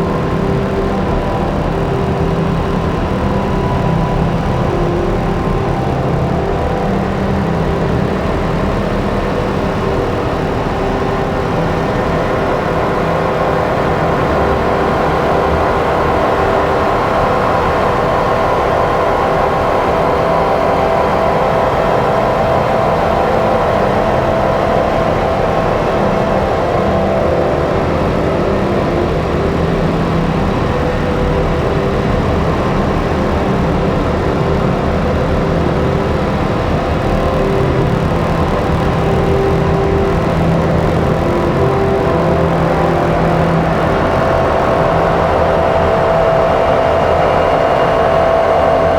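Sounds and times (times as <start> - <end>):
dense electronic synthesizer drone: 0.0 - 48.9.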